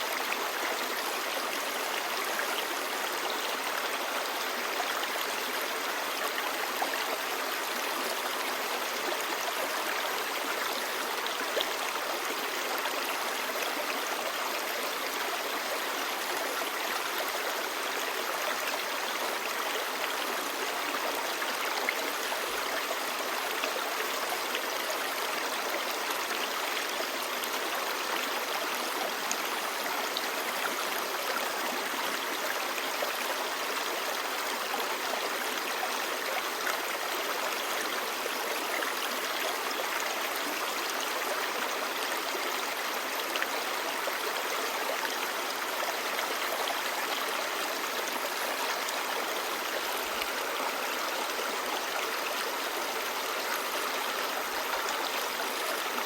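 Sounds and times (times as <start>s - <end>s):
stream babbling: 0.0s - 56.0s.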